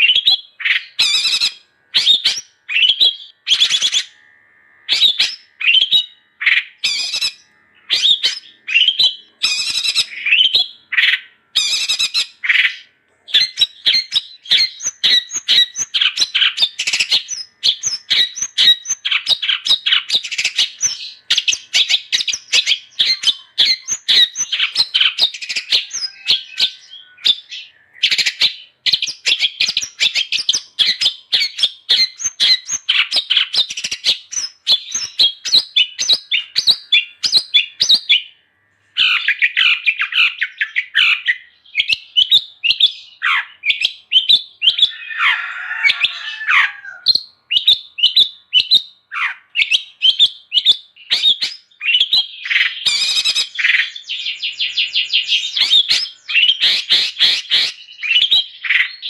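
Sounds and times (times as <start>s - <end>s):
bird chirping rapidly: 0.0s - 38.4s, 39.0s - 59.0s
harsh rasping bird call: 0.0s - 54.3s, 55.0s - 59.0s.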